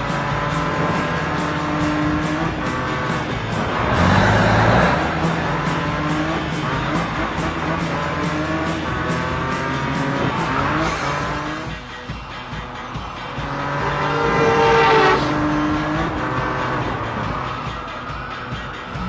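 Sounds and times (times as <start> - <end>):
cartoon race car engine revving: 0.0 - 11.8, 13.4 - 17.7
background music: 0.0 - 19.0.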